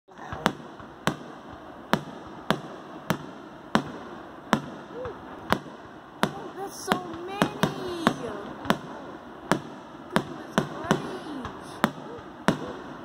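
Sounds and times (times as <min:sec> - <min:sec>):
fireworks bangs: 0:00.1 - 0:13.0.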